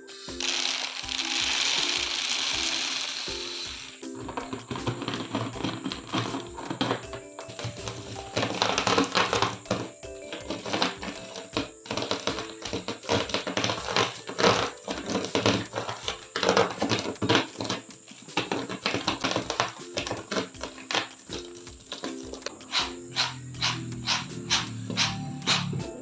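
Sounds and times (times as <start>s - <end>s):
background music with held notes: 0.0s - 26.0s
rapid clicking and tapping: 4.2s - 25.8s.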